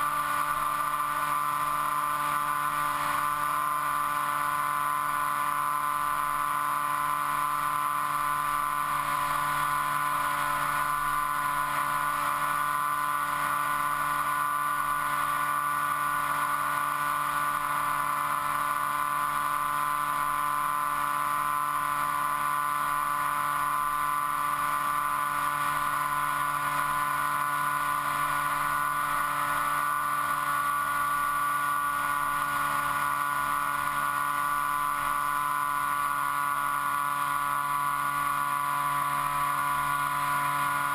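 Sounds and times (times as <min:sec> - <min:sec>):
model aircraft motor whine: 0:00.0 - 0:40.9.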